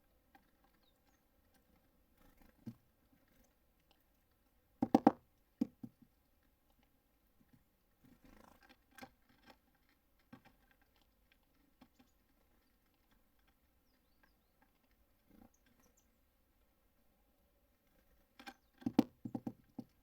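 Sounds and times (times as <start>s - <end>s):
birds pecking at feeder: 0.1s - 20.0s.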